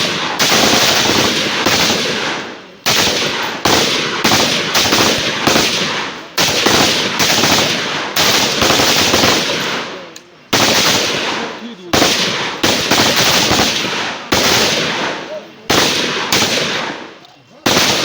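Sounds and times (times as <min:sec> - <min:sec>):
rifle shots echoing: 0:00.0 - 0:18.0.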